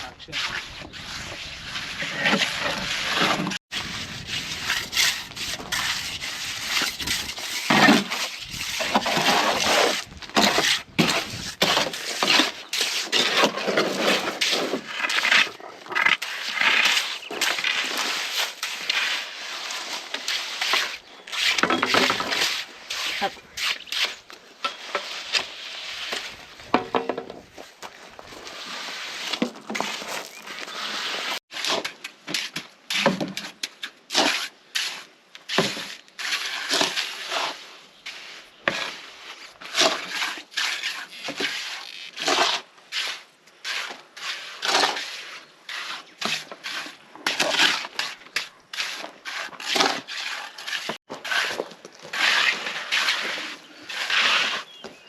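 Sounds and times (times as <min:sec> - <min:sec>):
tool scraping concrete mix: 0:00.0 - 0:55.0.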